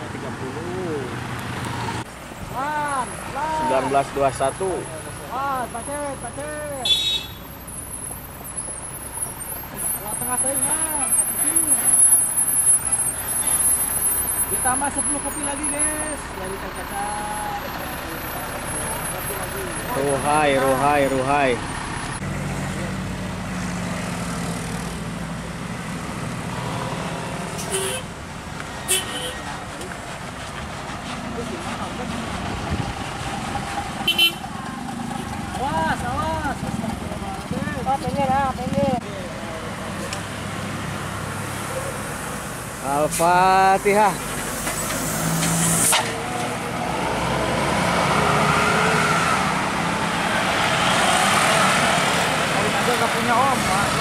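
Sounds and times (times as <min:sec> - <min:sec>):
motorcycles passing: 0:00.0 - 0:08.3, 0:09.0 - 0:54.0
bus engine: 0:00.0 - 0:54.0
cars passing: 0:00.0 - 0:54.0
road noise: 0:00.0 - 0:54.0
vehicles driving past: 0:00.0 - 0:54.0.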